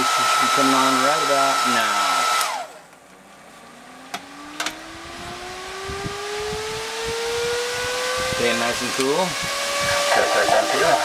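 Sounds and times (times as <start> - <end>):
fan whine rising in pitch: 0.0 - 11.0.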